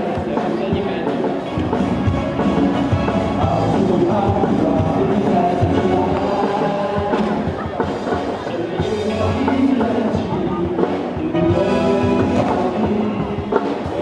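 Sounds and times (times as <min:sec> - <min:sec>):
drum kit beat: 0:00.0 - 0:14.0
upbeat rock cheer song: 0:00.0 - 0:14.0.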